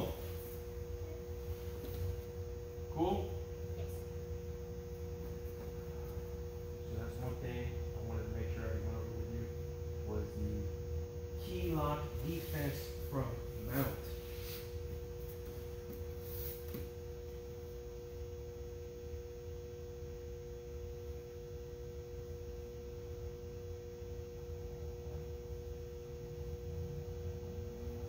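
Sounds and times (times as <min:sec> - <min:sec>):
steady hum of held tones: 0:00.0 - 0:28.0.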